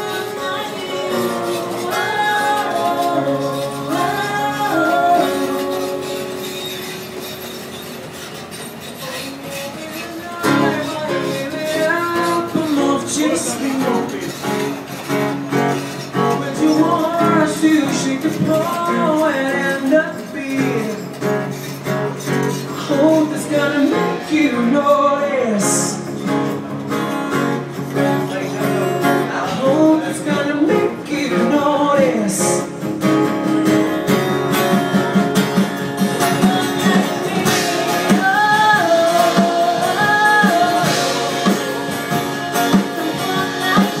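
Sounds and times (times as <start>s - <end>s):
song with vocals guitar and beat: 0.0s - 44.0s.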